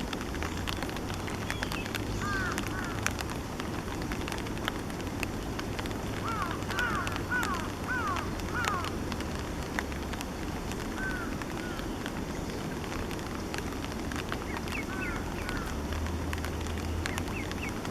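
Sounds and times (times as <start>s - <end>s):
faint clicks: 0.0s - 17.9s.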